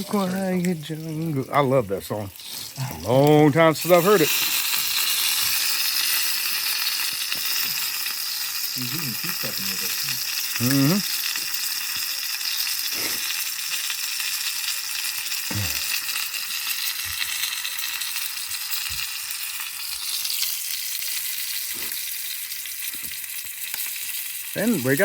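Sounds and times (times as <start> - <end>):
sausages sizzling in a pan: 0.0 - 25.0.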